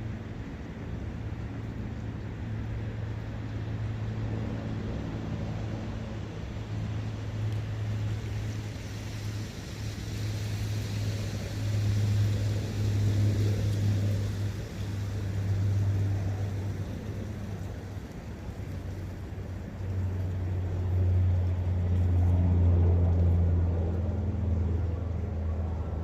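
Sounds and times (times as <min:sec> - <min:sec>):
wind: 0:00.0 - 0:26.0.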